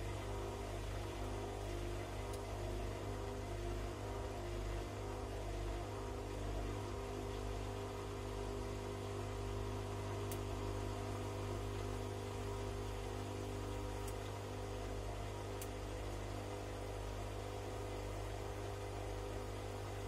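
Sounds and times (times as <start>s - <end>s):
washing machine motor humming: 0.0s - 20.0s.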